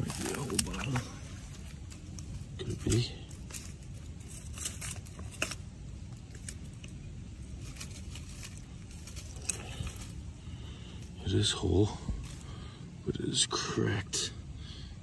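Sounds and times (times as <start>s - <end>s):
hand scraping soil: 0.0s - 12.5s.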